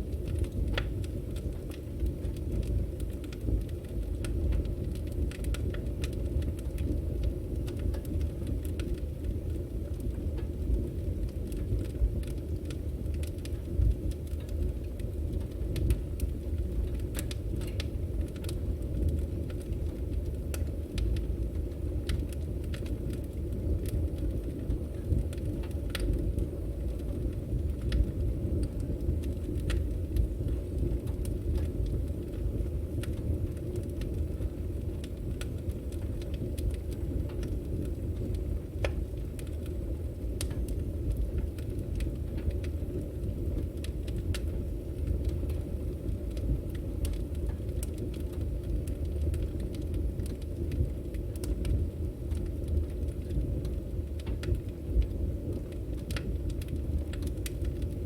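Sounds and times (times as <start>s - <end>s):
firewood burning and crackling: 0.0s - 58.0s.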